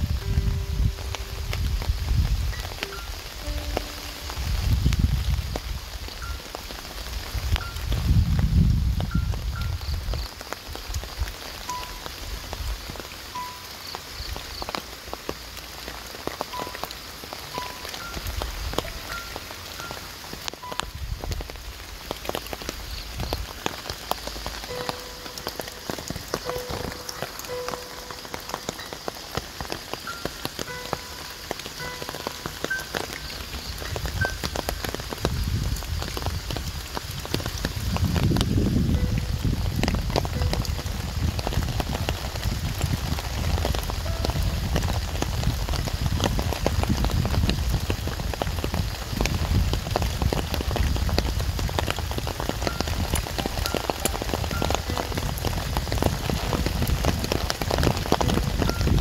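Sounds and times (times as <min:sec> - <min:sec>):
light rain pattering: 0:00.0 - 0:59.0.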